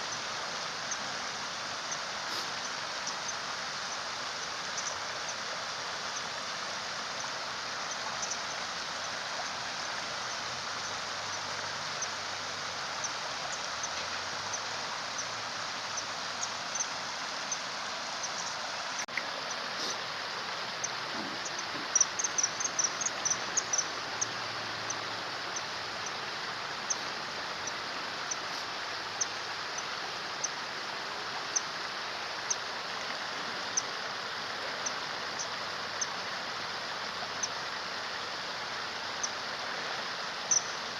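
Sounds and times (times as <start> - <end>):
stream running water: 0.0 - 40.9.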